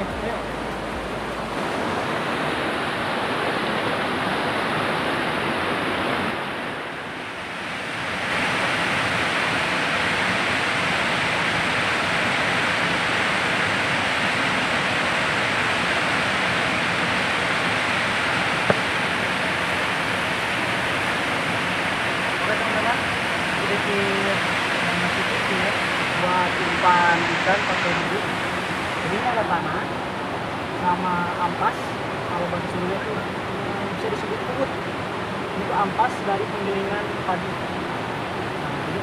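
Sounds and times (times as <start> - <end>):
river rushing over rocks: 0.0 - 39.0.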